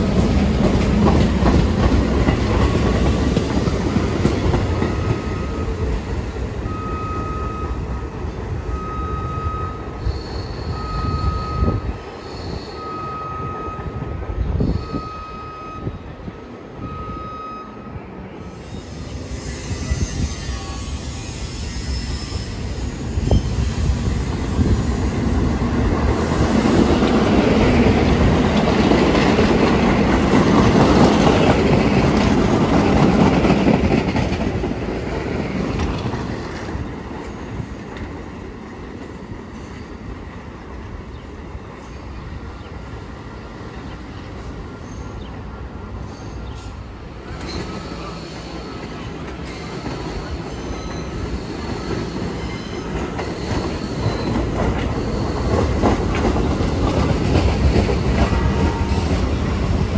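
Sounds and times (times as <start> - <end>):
electric train rumbling on steel wheels: 0.0 - 59.9.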